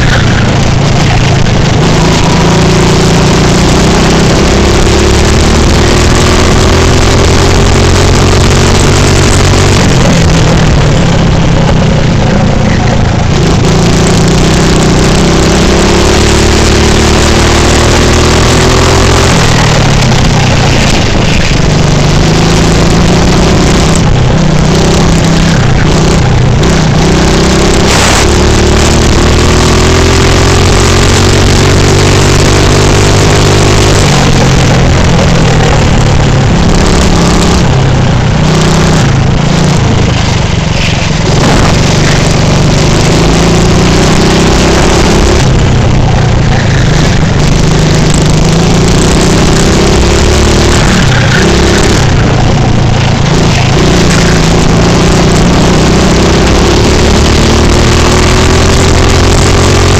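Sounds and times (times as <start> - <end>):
racing kart engine: 0.0 - 59.9.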